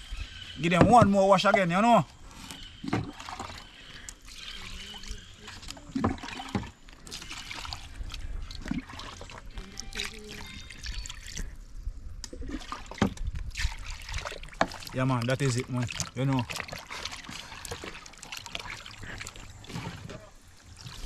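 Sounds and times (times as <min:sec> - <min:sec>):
water trickling and splashing: 0:00.0 - 0:21.0.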